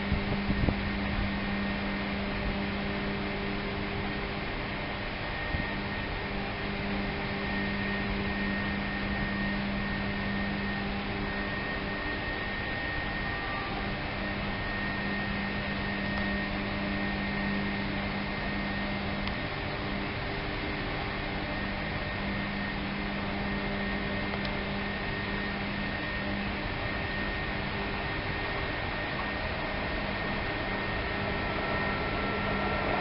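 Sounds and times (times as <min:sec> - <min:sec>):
faint wavering high whine: 0:00.0 - 0:33.0
low hum: 0:00.0 - 0:33.0.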